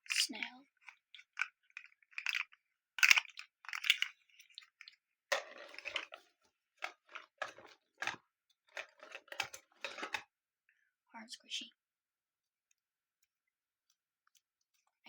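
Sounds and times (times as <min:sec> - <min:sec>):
fidget toy crackly squishing: 0:00.0 - 0:10.3, 0:12.3 - 0:15.0.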